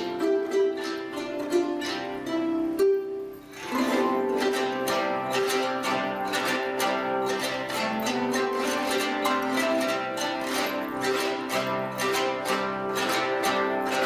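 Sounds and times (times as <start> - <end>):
plucked zither melody: 0.0 - 14.0.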